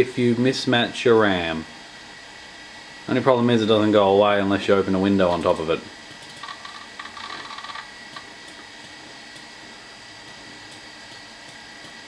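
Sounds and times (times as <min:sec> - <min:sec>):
computer hum with high tone: 0:00.0 - 0:12.0
soft mechanical whirring: 0:00.0 - 0:12.0.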